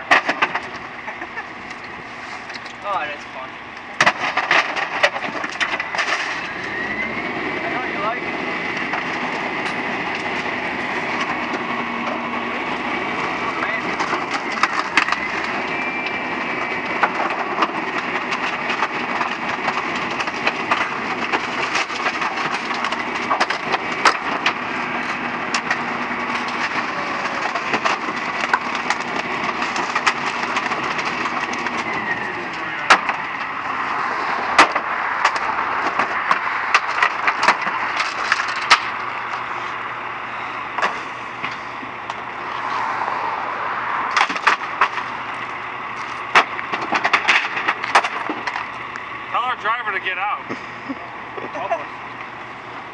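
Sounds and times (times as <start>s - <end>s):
junk knocking and crashing: 0.0s - 1.9s, 3.9s - 6.8s, 7.6s - 39.6s, 40.7s - 42.3s, 44.0s - 48.9s
hydraulic packer whine: 0.0s - 52.9s.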